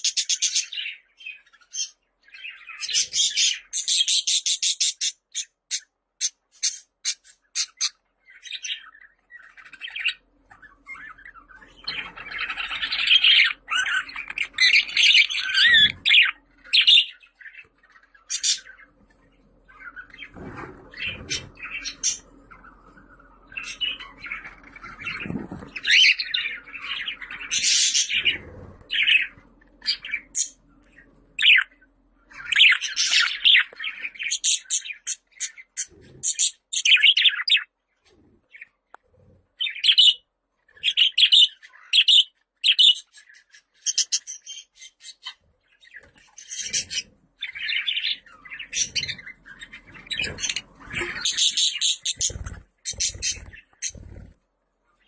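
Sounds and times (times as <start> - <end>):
budgerigar chirps and warbles: 0.0 - 37.8, 39.6 - 54.4.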